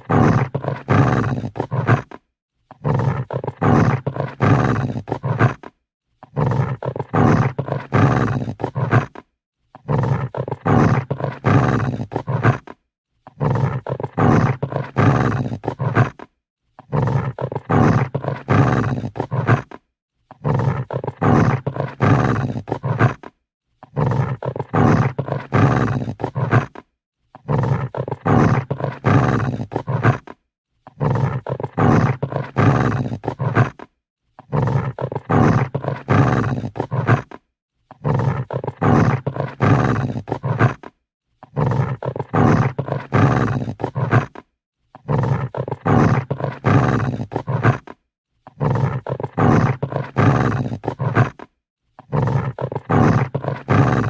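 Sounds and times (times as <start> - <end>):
dog growling: 0.0 - 54.0.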